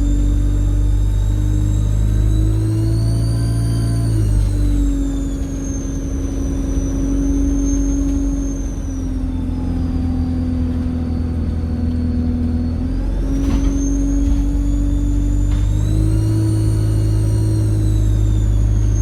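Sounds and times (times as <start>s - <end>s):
turbocharger whistle: 0.0s - 13.0s, 13.6s - 19.0s
diesel engine rumble: 0.0s - 19.0s.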